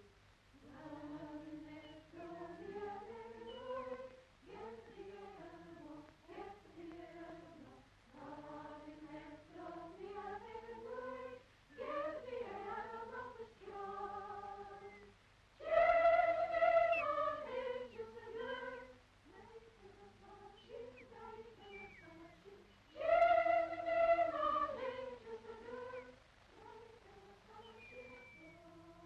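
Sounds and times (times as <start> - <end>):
person singing unaccompanied: 0.0 - 29.0.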